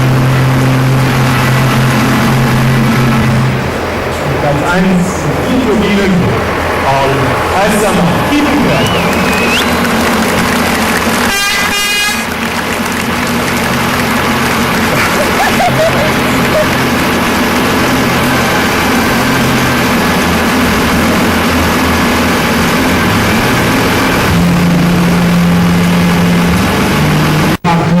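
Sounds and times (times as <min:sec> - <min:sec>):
pulling tractor engines running: 0:00.0 - 0:28.0.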